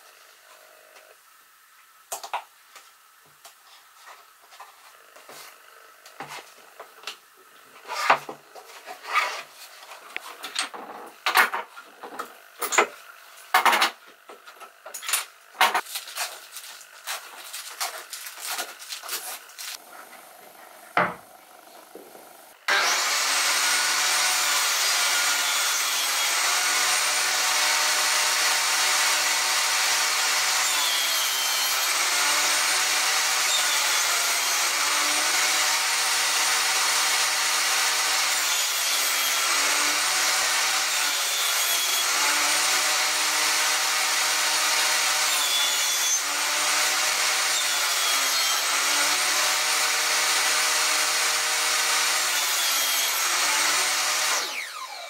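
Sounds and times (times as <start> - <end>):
table saw cutting wood: 4.5 - 55.0.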